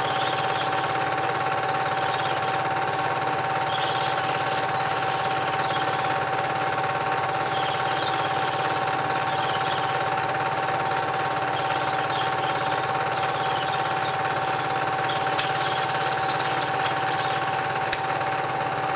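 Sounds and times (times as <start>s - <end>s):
constant hum tone: 0.0s - 18.9s
film projector whirring and clattering: 0.0s - 18.9s.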